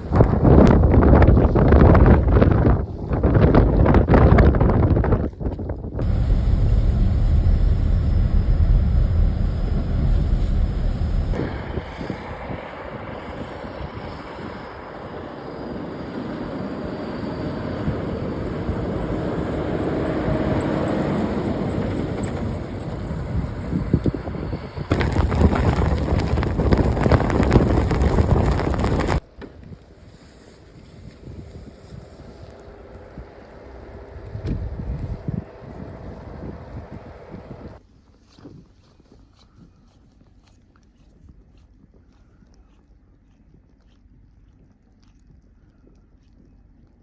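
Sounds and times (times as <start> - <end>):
blizzard wind buffeting microphone: 0.0 - 37.8.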